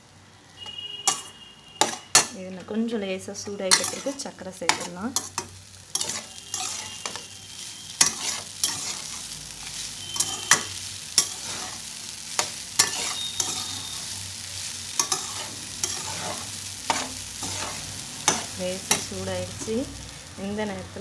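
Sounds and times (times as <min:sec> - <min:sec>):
ghee sizzling in a pan: 0:00.0 - 0:21.0
metal spatula scraping steel pan: 0:00.6 - 0:02.4, 0:03.4 - 0:14.2, 0:15.0 - 0:19.8.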